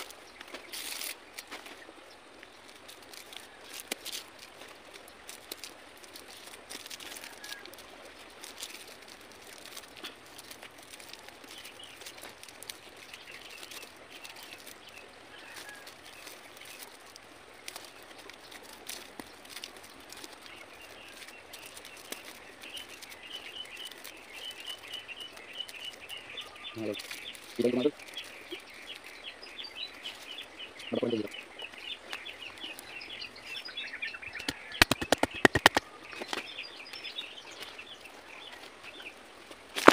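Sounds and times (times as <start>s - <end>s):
hands binding bamboo with cord: 0.0s - 39.9s
birds chirping: 7.2s - 39.9s.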